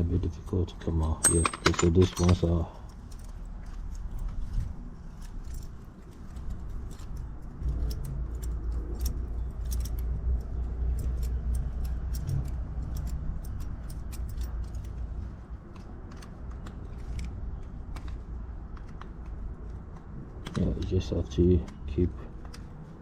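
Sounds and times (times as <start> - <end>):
metal parts clicking and clinking: 0.8 - 21.4.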